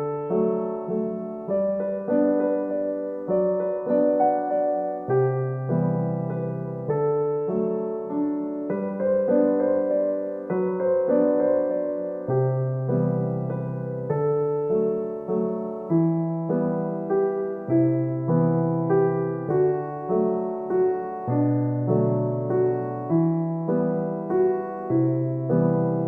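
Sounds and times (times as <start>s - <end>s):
slow electric piano melody: 0.0s - 26.0s.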